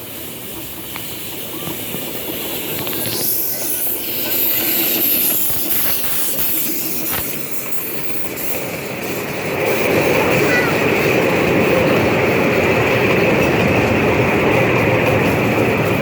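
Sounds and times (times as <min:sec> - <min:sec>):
steam hissing: 0:00.0 - 0:16.0
train running on rails: 0:00.0 - 0:16.0
wheel clicks: 0:00.6 - 0:16.0.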